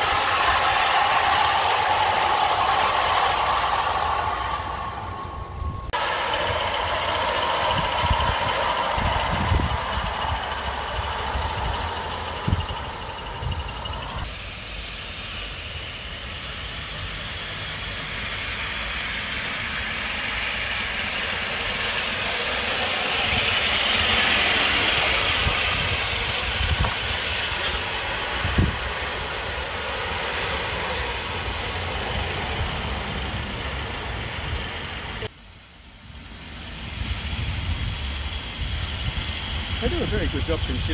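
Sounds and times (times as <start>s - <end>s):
model steam locomotive running: 0.0s - 35.3s, 36.0s - 40.9s.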